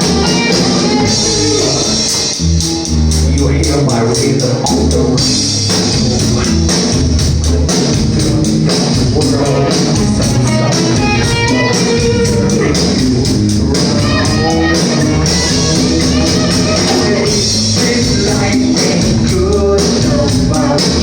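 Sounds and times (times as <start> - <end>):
rock band instrumental: 0.0 - 3.4, 4.4 - 21.0.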